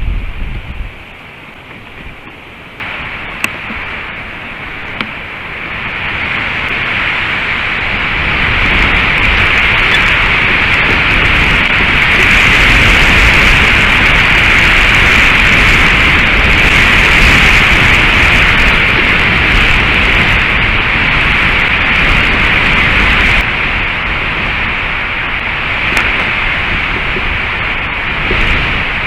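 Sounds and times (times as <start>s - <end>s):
wind on microphone: 0.0s - 29.0s.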